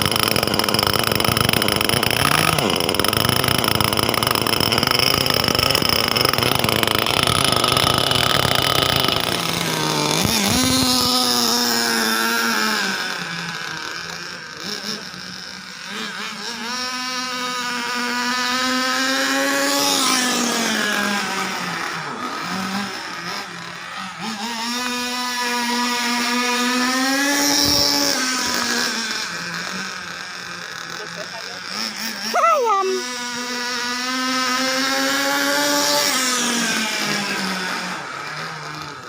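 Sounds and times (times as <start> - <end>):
model car engine at high revs: 0.0 - 39.0.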